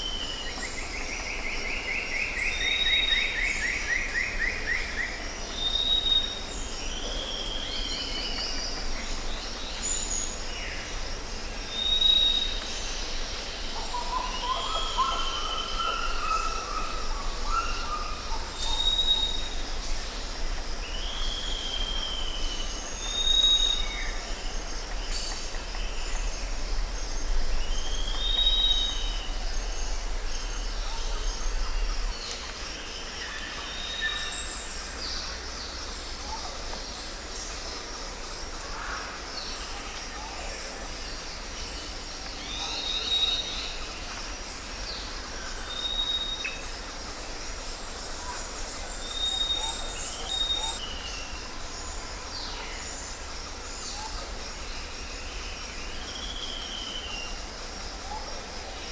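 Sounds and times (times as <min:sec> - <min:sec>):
insect drone: 0:00.0 - 0:58.9.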